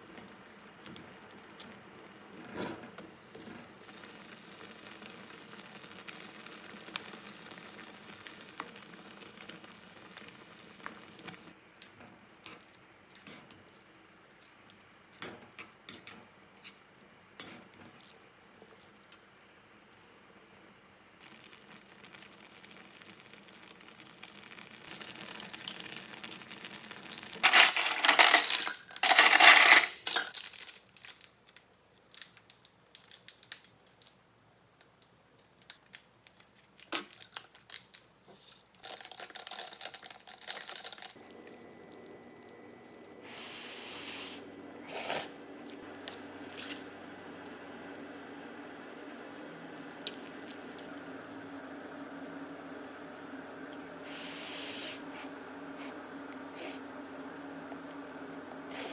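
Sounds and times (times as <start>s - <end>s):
low sizzle: 0.0s - 58.9s.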